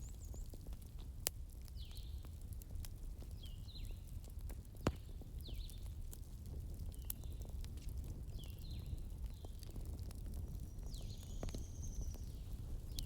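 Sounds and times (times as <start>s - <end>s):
sharp crackles and pops: 0.0s - 13.0s
wood fire crackling: 0.0s - 13.0s.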